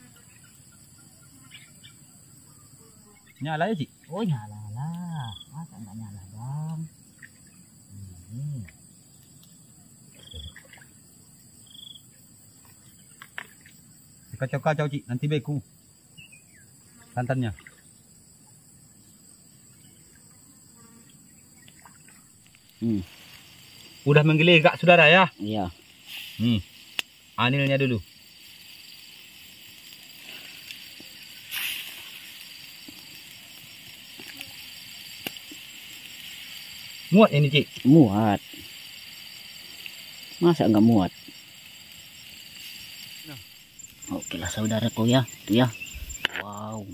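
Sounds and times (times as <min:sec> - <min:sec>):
crickets and insects droning: 0:00.0 - 0:46.9
faint steady hiss: 0:00.0 - 0:46.9.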